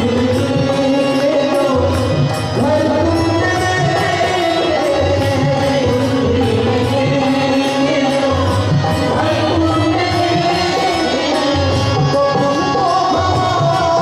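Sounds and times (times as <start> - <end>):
harmonium sustained notes: 0.0 - 14.0.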